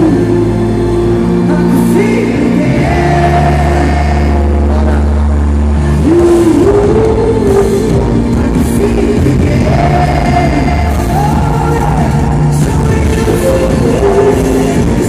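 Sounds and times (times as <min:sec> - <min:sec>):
live pop-rock band: 0:00.0 - 0:15.0.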